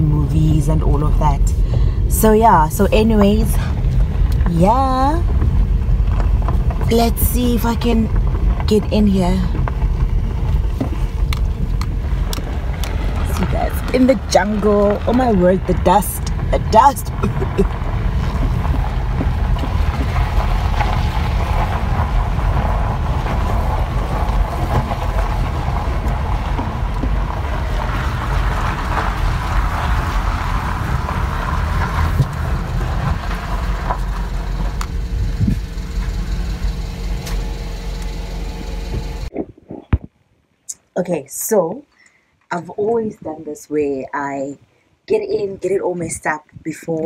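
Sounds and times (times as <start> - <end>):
car driving on dirt road: 0.0 - 40.2.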